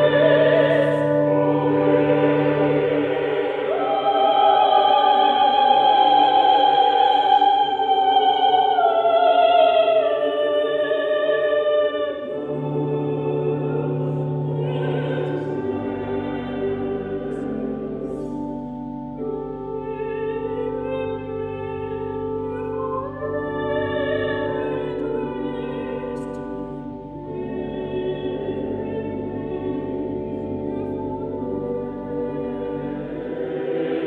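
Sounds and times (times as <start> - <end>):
mixed choir singing: 0.0 - 18.3, 22.5 - 34.0.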